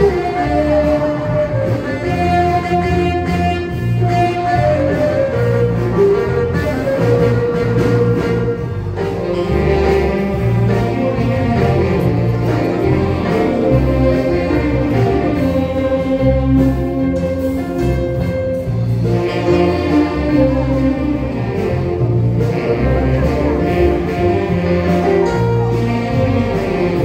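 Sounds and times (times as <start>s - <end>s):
sustained melody line: 0.0s - 27.0s
walking bass line: 0.0s - 27.0s.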